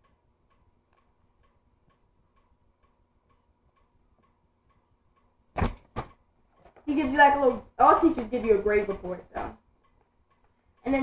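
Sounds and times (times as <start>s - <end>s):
faint regular ticking: 0.0s - 5.5s, 6.1s - 11.0s.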